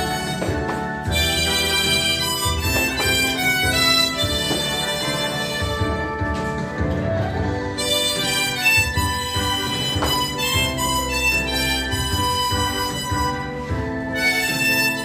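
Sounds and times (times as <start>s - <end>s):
harmonicas playing slow melody: 0.0s - 15.0s.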